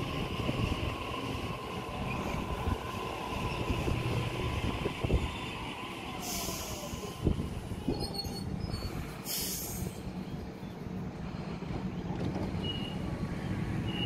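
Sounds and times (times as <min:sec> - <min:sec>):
train braking to a stop: 0:00.0 - 0:10.5, 0:12.0 - 0:14.0.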